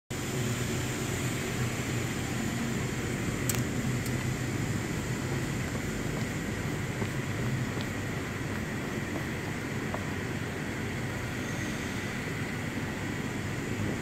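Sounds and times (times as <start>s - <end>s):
power plant machinery running: 0.1s - 14.0s.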